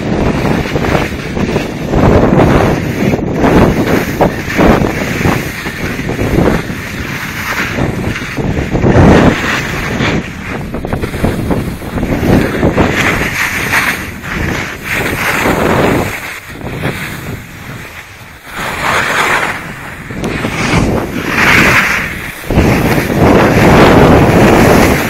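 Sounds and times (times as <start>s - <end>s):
skis scraping on snow: 0.0s - 25.0s
wind buffeting microphone: 0.0s - 25.0s.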